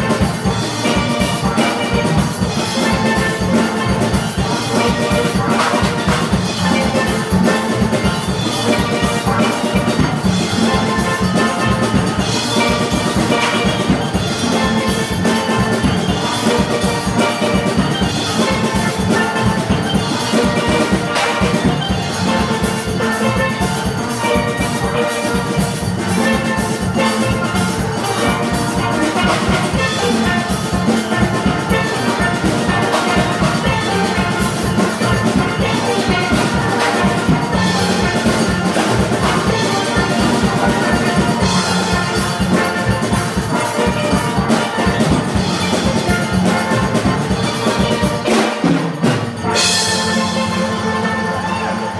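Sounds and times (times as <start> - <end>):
drums driving beat: 0.0 - 51.9
steel band playing: 0.0 - 51.9.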